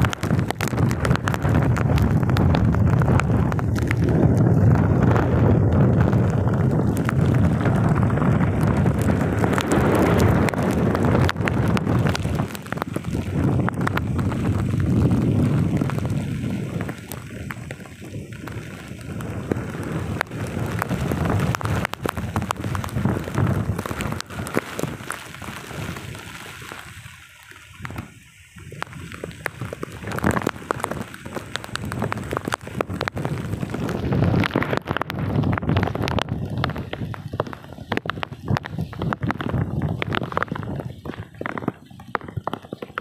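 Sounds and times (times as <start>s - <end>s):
rain pattering: 0.0s - 43.0s
wind gusting across microphone: 0.0s - 43.0s.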